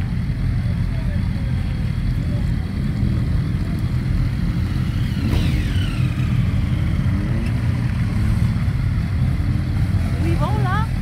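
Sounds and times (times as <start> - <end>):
motorcycle accelerating: 0.0 - 11.0
motorcycle engines rumbling: 0.0 - 11.0.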